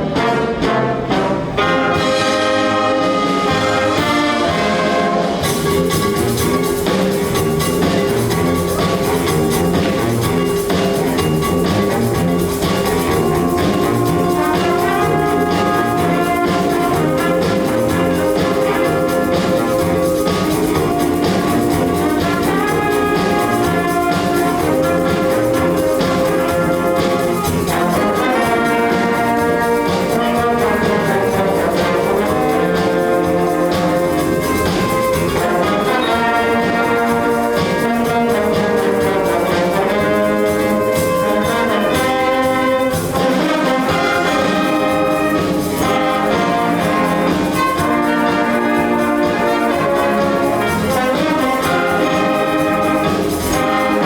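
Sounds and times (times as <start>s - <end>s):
school band playing brass: 0.0s - 54.0s
steady percussion: 0.0s - 54.0s.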